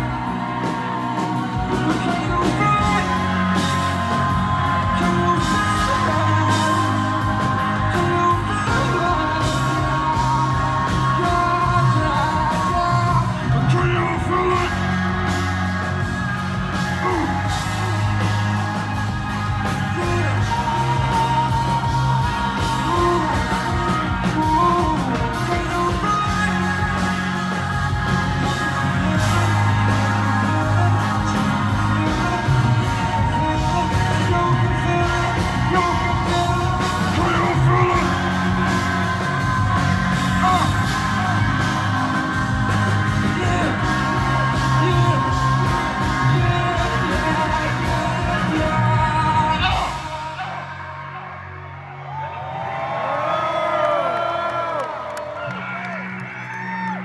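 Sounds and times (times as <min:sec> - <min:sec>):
live hip-hop music: 0:00.0 - 0:57.0
vocals over heavy bass beat: 0:01.4 - 0:51.1.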